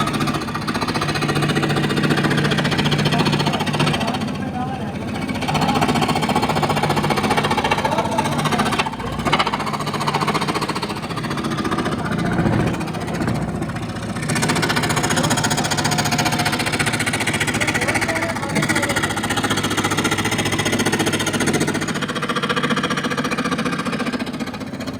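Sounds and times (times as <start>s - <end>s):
power tool chattering: 0.0s - 24.9s.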